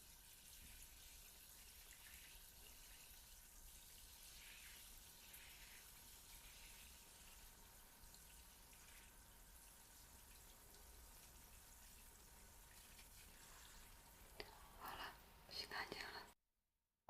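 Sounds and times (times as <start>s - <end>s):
faint high hiss: 0.0s - 16.4s.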